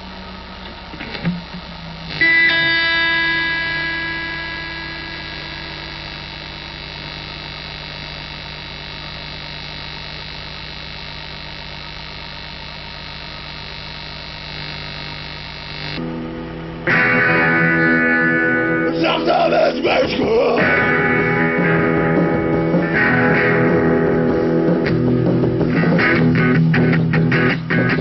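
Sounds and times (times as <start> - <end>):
electric guitar chord: 0.0 - 11.0, 13.4 - 28.0
amplifier hum and buzz: 0.0 - 28.0.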